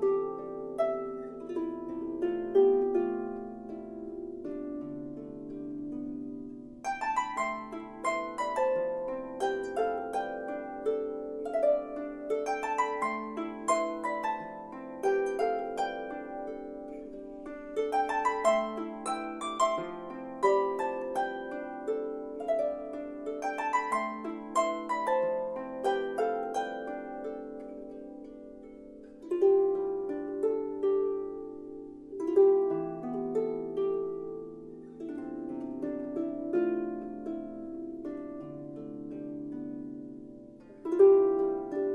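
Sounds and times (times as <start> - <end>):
harp arpeggios and chords: 0.0 - 41.9.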